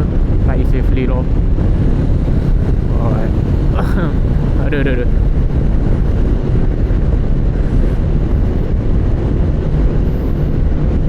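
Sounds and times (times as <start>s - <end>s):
motorcycle engine: 0.0s - 11.0s
road noise: 0.0s - 11.0s
wind on microphone: 0.0s - 11.0s.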